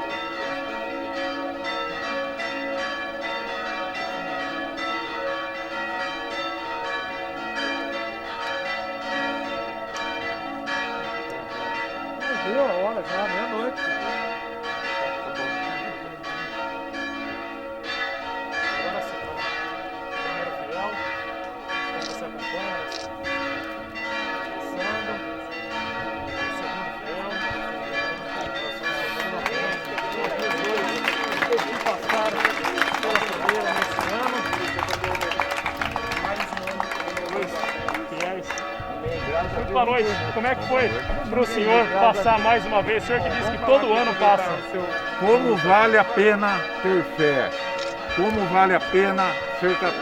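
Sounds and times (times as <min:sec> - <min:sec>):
church bells ringing: 0:00.0 - 0:50.0.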